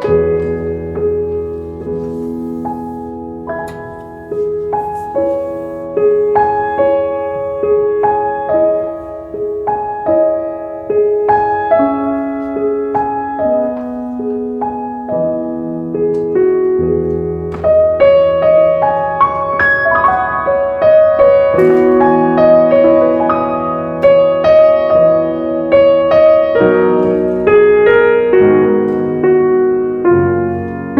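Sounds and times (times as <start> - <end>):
soft piano music: 0.0 - 30.9.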